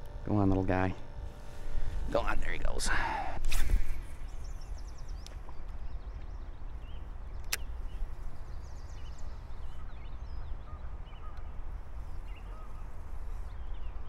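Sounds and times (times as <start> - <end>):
small birds chirping: 0.0 - 14.0
wind buffeting microphone: 1.1 - 14.0.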